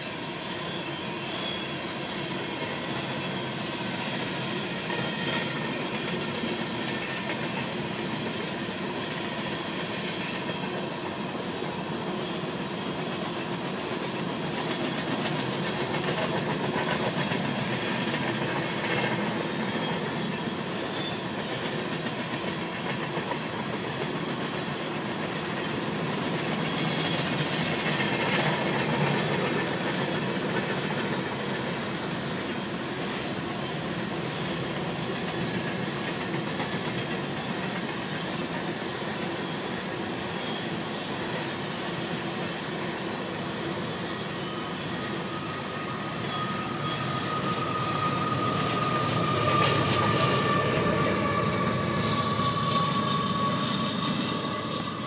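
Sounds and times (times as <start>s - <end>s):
train wheels rumbling on bridge: 0.0s - 55.0s.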